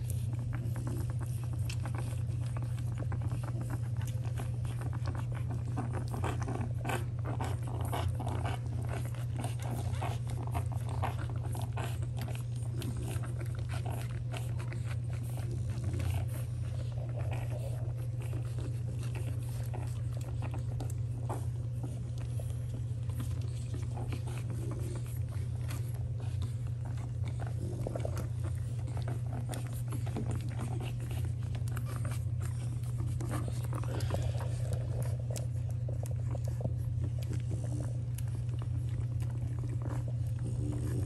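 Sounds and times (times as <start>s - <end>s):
puppies suckling: 0.0s - 41.0s
steady low hum: 0.0s - 41.0s.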